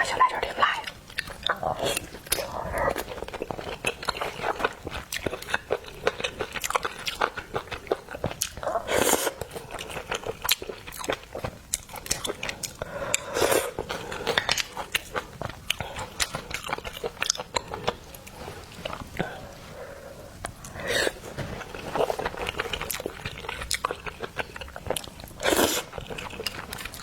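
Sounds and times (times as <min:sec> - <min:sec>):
wet chewing and biting: 0:00.9 - 0:19.6, 0:21.6 - 0:27.0.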